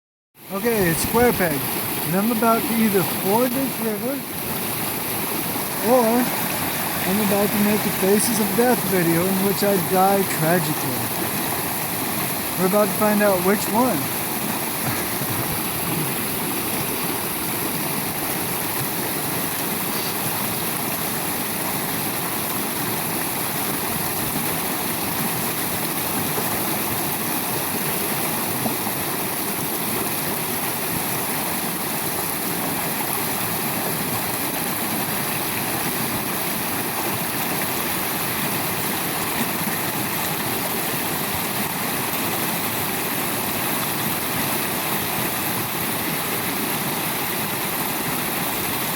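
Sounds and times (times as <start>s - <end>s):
river rushing over rocks: 0.4s - 48.9s.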